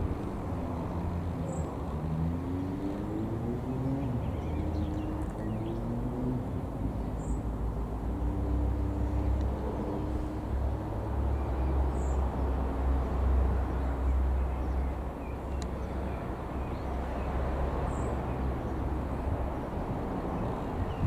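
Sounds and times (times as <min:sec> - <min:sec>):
distant aircraft engines rumbling: 0:00.0 - 0:21.0.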